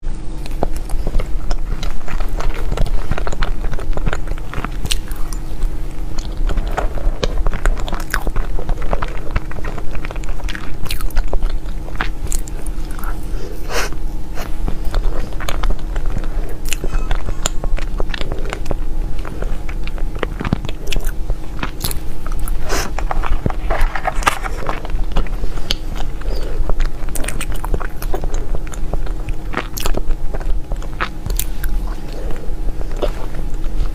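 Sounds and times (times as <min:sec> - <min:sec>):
crunching and chewing food: 0:00.0 - 0:33.9
steady low hum: 0:00.0 - 0:33.9.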